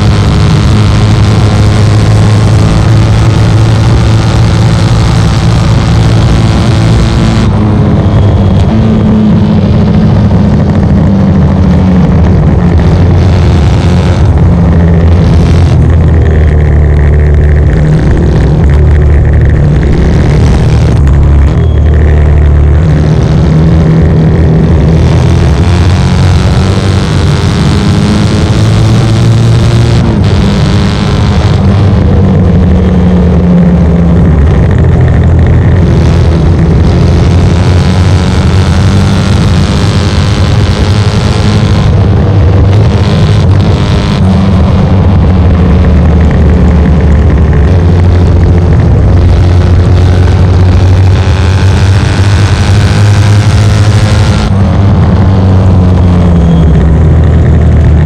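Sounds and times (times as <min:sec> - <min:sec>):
motorcycle engine racing: 0:00.0 - 0:58.0.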